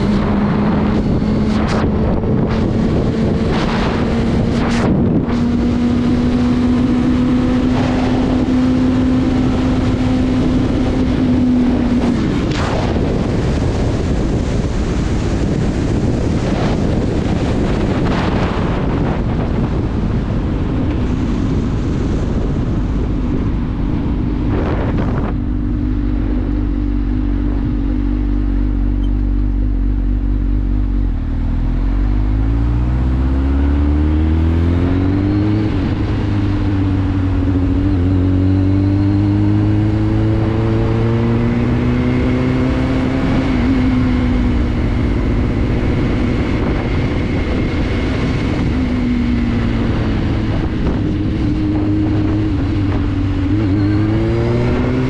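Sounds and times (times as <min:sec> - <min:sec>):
motorcycle engine: 0:00.0 - 0:55.0
wind rushing over microphone: 0:00.0 - 0:55.0.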